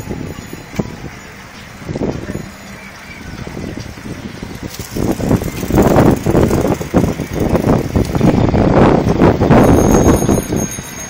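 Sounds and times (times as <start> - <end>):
road noise: 0.0 - 11.0
wind rumble on microphone: 0.0 - 11.0.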